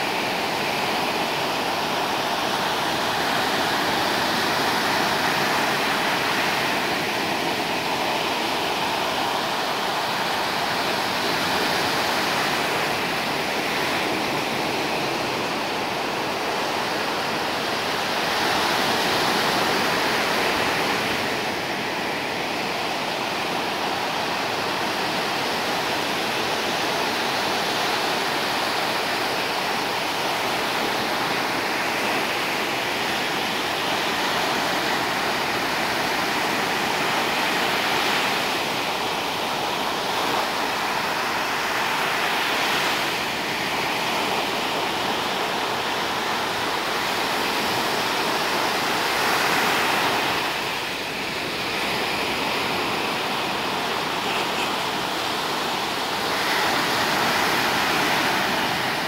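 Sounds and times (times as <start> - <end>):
storm surf breaking on beach: 0.0 - 59.0.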